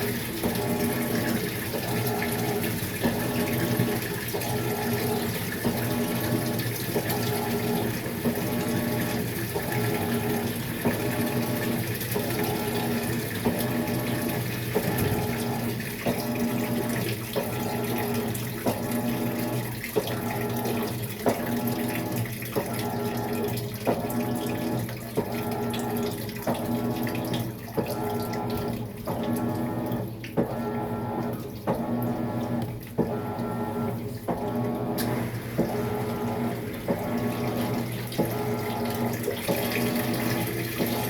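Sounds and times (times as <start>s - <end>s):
washer motor hum: 0.0s - 41.0s
water swishing in washer tub: 0.0s - 41.0s.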